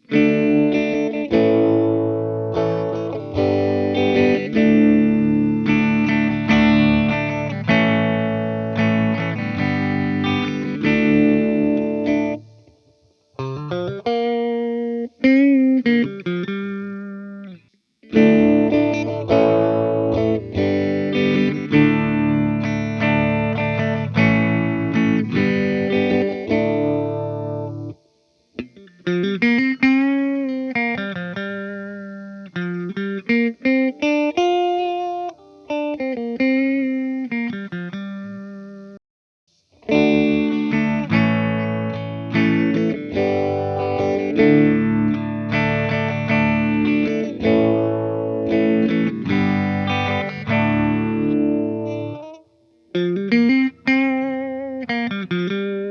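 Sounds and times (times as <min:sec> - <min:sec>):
electric guitar with phaser: 0:00.0 - 0:39.0, 0:39.7 - 0:55.9.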